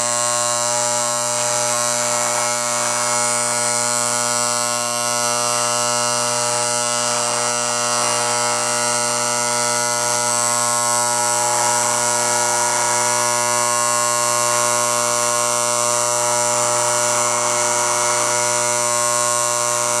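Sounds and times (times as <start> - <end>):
electric vibrator mechanism buzzing: 0.0 - 20.0.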